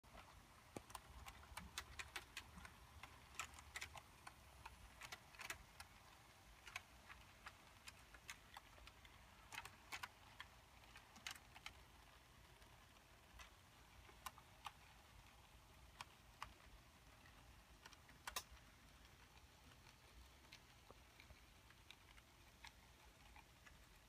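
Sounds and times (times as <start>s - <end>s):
model train wheels clicking: 0.1s - 24.0s.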